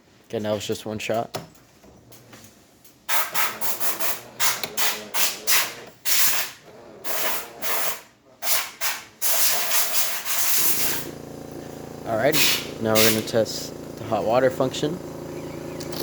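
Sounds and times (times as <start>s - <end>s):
espresso machine hissing spurts: 3.1s - 16.0s.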